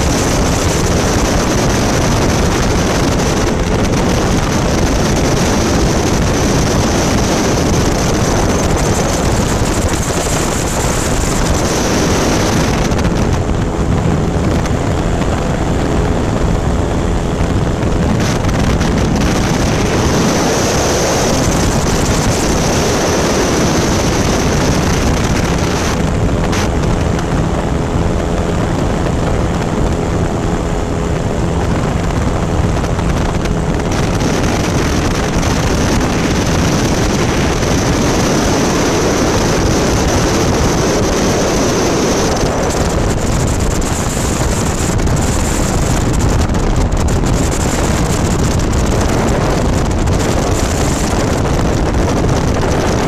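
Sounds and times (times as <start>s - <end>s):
aircraft engine droning: 0.0s - 53.0s
wind rushing over microphone: 0.0s - 53.0s.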